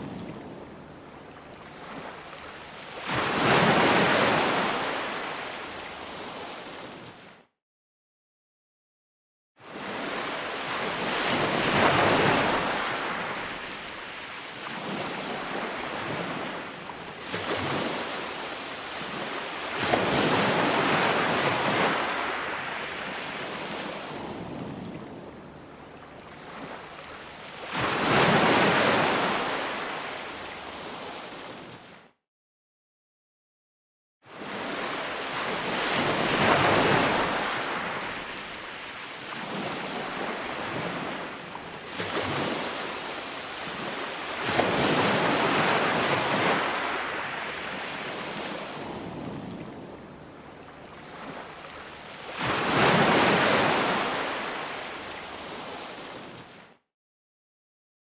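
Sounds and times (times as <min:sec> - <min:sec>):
ocean waves breaking: 0:00.0 - 0:07.3, 0:09.7 - 0:32.0, 0:34.3 - 0:56.7.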